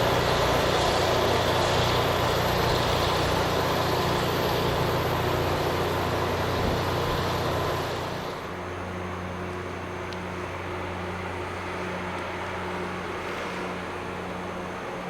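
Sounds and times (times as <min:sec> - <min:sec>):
engine humming: 0:00.0 - 0:15.0
rail grinding machine hissing grind: 0:00.0 - 0:15.0.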